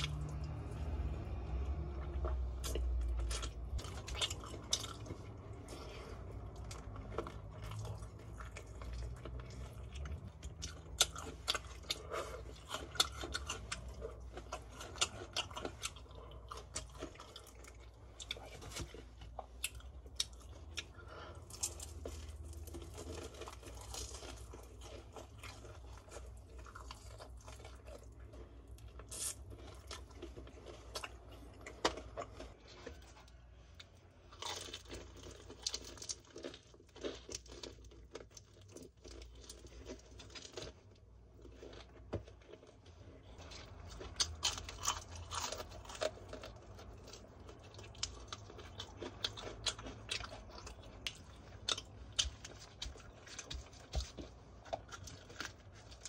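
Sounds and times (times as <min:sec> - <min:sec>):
crunching fried chicken: 0:00.0 - 0:56.0.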